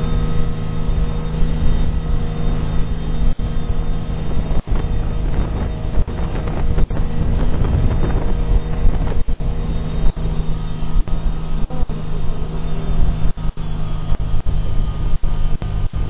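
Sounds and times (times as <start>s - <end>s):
motorboat engine humming: 0.0s - 16.0s.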